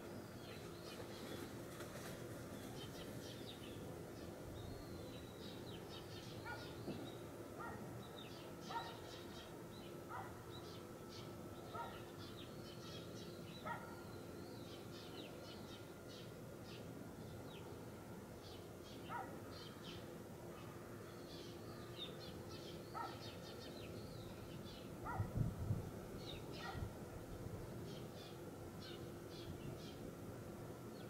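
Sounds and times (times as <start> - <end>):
small birds chirping: 0.0 - 17.8, 21.0 - 25.4, 26.2 - 30.1
faint steady hum: 0.0 - 31.0.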